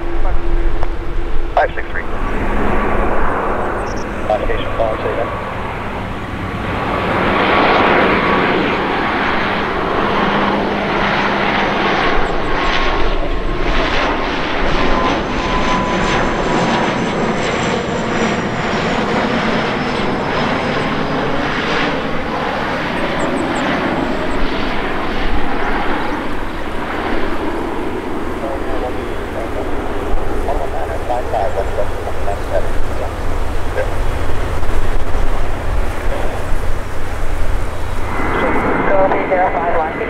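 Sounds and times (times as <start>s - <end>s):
airliner jet engines landing: 0.0s - 40.0s.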